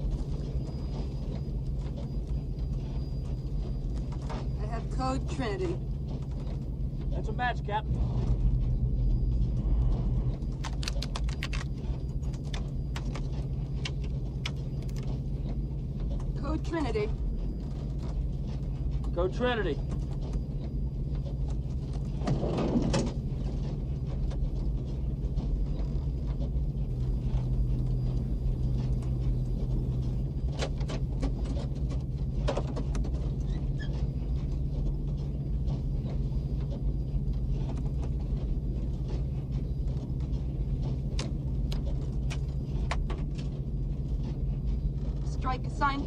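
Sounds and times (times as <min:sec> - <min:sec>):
aircraft engines droning: 0:00.0 - 0:46.0.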